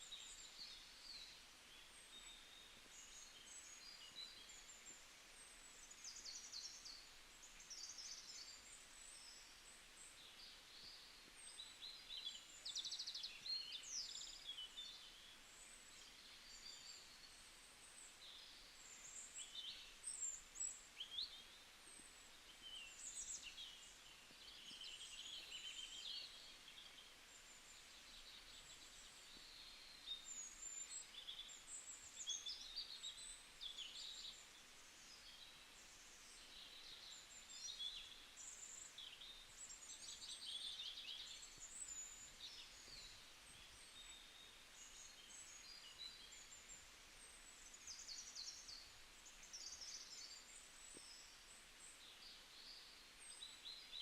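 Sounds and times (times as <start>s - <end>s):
low steady outdoor hiss: 0.0s - 54.0s
small birds chirping and trilling: 0.0s - 54.0s.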